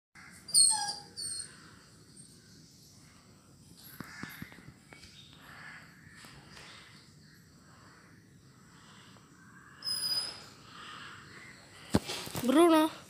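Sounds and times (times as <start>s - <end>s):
low outdoor background: 0.2s - 13.0s.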